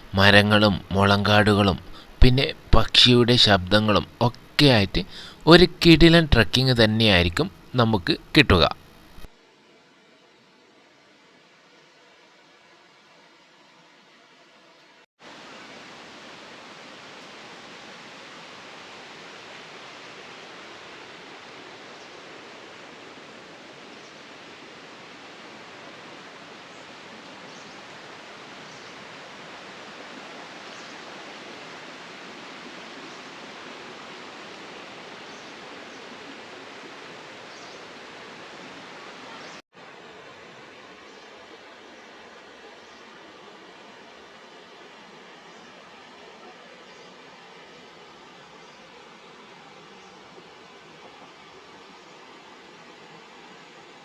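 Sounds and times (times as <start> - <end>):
quiet hiss: 0.0 - 54.0.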